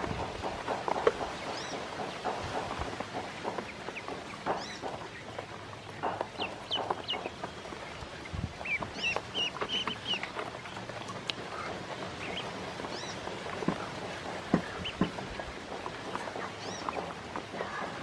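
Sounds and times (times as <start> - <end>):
ducklings peeping: 0.0 - 18.0
beaks pecking clicks: 0.2 - 7.8, 8.6 - 18.0.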